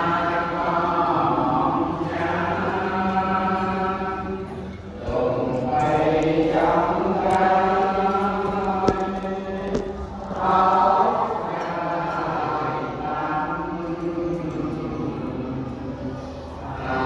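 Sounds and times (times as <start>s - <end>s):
group chanting: 0.0s - 17.0s.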